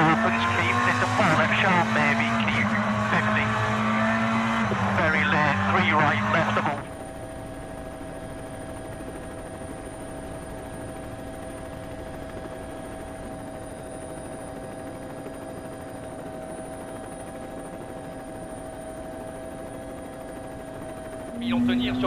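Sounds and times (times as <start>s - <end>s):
helicopter running: 0.0s - 22.0s.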